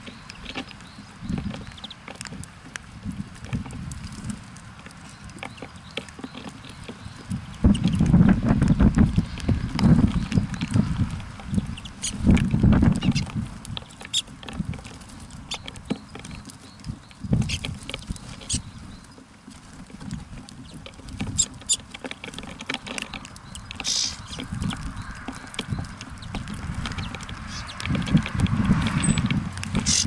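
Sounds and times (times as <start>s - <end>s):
birds pecking and landing: 0.0s - 30.0s.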